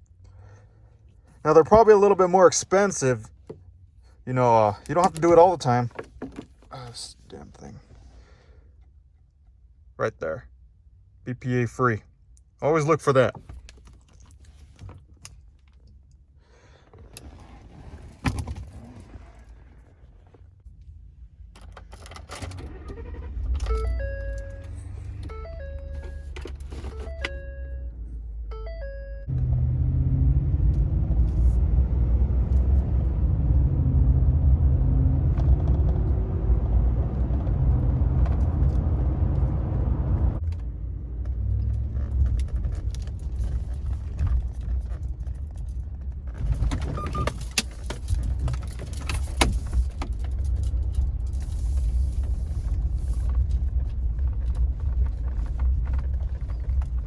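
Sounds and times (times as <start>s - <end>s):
engine and road rumble: 0.0s - 57.0s.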